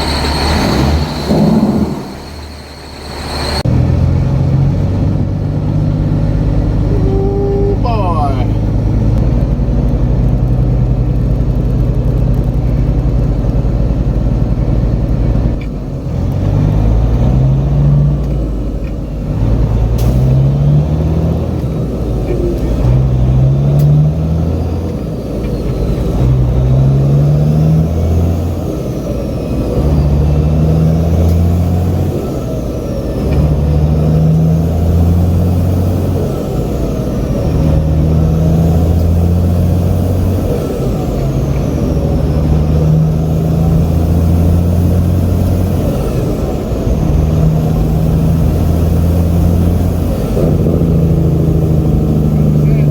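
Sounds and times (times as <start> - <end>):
diesel truck engine shifting gears: 0.0 - 52.9.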